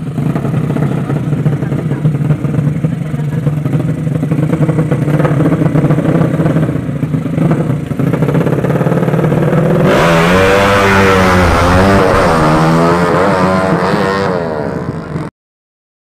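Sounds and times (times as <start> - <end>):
motorcycle engine revving: 0.0 - 15.3.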